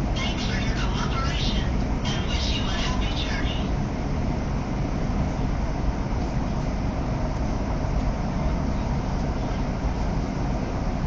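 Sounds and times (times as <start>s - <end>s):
train rumbling ride noise: 0.0s - 11.0s.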